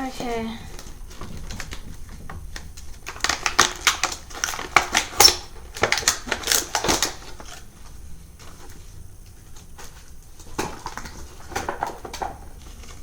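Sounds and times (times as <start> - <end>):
plastic blister pack crackling: 0.0 - 13.0.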